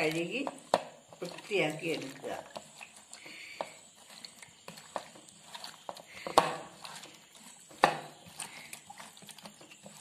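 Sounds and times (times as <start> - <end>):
hands sloshing vegetables in water: 0.0 - 10.0.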